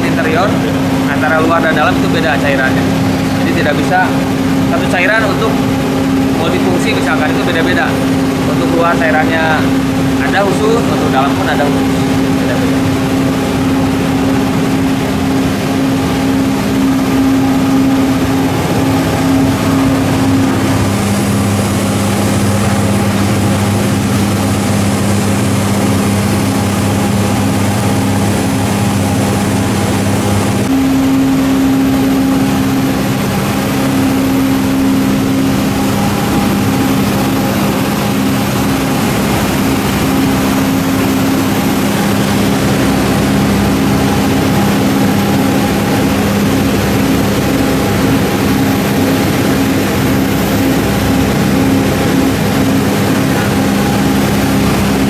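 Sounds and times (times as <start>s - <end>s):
machinery droning: 0.0s - 55.0s.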